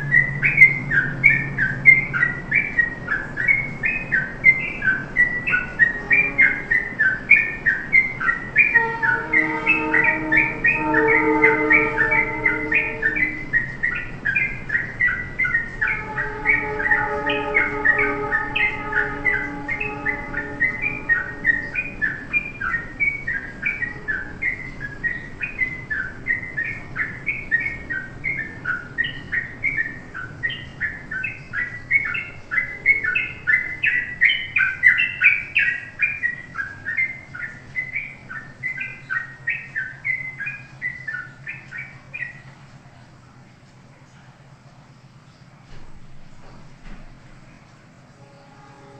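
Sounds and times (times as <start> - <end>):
songbird chirping: 0.0 - 48.9
steady low tone: 0.0 - 48.9.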